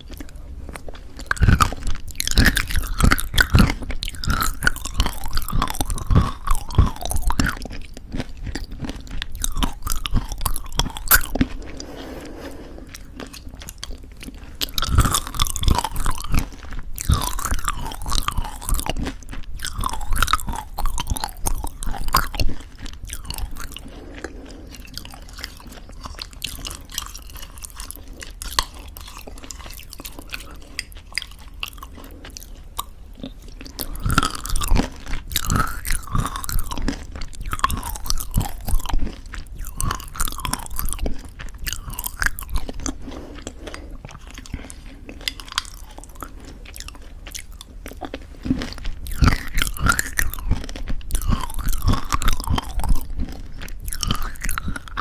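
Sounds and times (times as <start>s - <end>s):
crunching and chewing granola: 0.0s - 55.0s.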